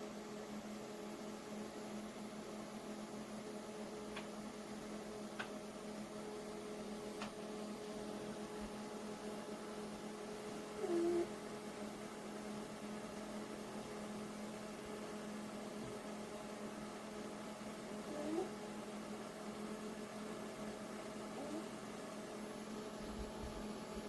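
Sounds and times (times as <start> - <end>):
electric hum: 0.0 - 24.0.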